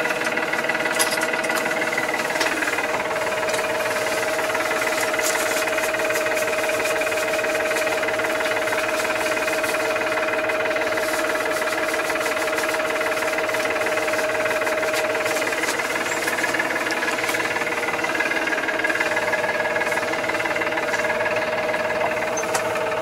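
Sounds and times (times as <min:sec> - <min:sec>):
engine whine: 0:00.0 - 0:23.0
tractor engine droning: 0:00.0 - 0:23.0.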